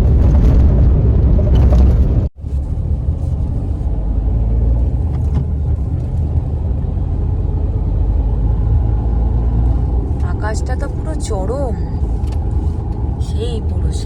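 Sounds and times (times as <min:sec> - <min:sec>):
vehicle rumble from on board: 0:00.0 - 0:14.0.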